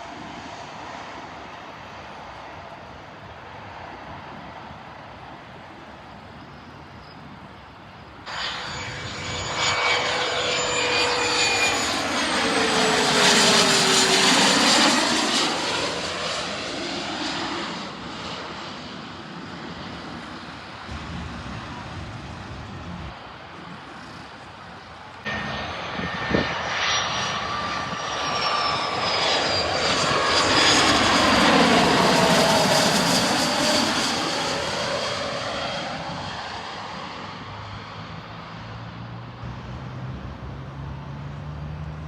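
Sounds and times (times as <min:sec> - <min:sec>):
aircraft engine flying past: 0:00.0 - 0:42.0.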